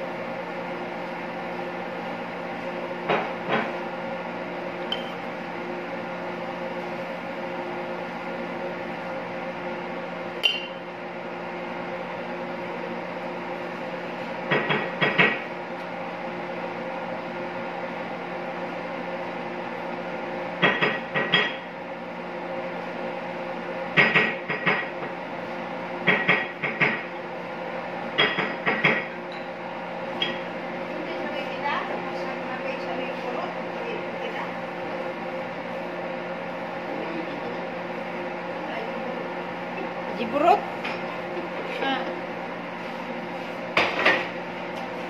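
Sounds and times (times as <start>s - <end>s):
kitchen appliance humming: 0.0s - 45.0s.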